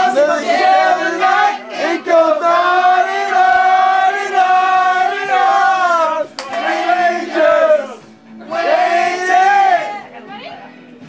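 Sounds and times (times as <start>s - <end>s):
men singing loudly together: 0.0s - 10.0s.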